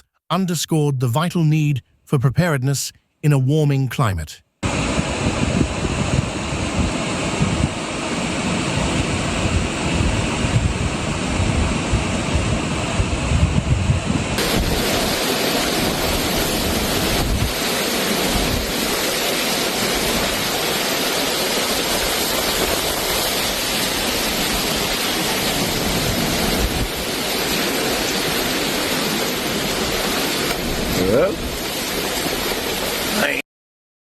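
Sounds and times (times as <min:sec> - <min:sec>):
wind gusts rumbling on microphone: 0:04.6 - 0:33.2
heavy rain: 0:04.6 - 0:33.4
storm wind: 0:04.6 - 0:33.4.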